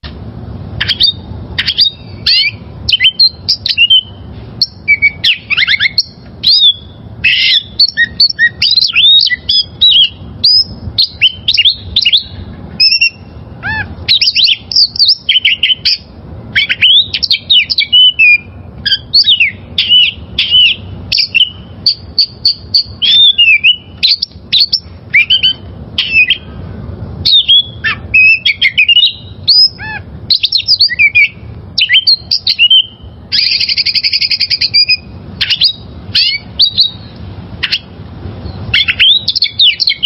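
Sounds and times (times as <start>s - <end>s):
faint low hum: 0.0s - 40.0s
bird singing whistled notes: 0.8s - 26.5s, 27.2s - 40.0s.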